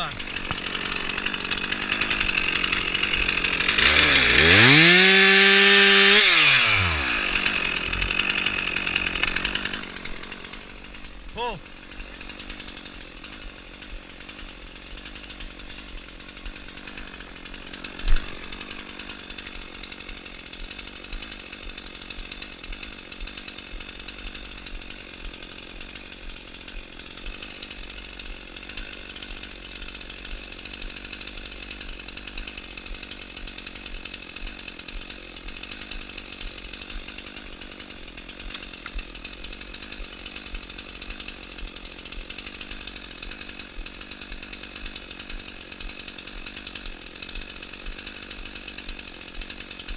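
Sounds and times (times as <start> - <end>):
chainsaw engine running: 0.0 - 49.9.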